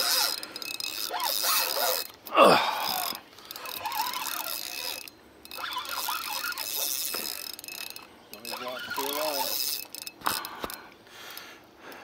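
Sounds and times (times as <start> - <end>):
fishing reel ratcheting: 0.0 - 11.5.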